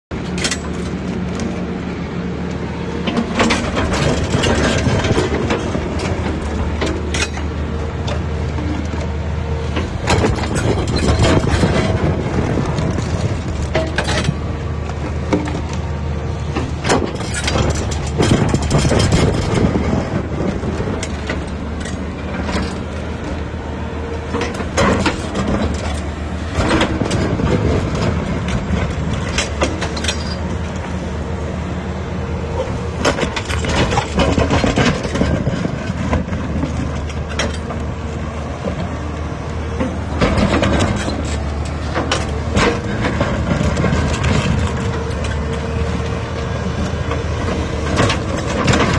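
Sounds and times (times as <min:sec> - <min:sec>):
diesel engine running under load: 0:00.1 - 0:48.9.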